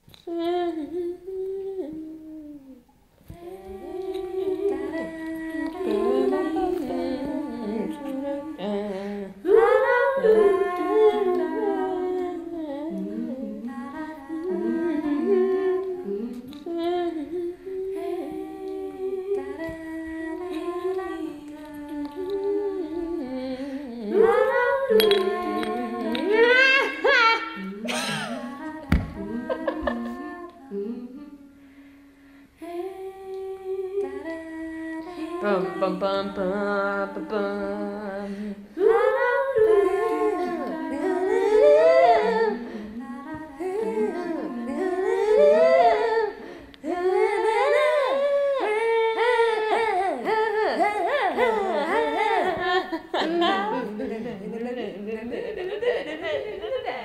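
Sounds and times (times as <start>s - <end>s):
voices humming and singing: 0.0s - 57.0s.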